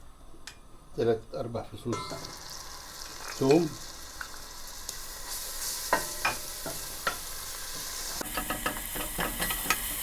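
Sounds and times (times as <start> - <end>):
garlic sizzling in oil: 2.0 - 10.0.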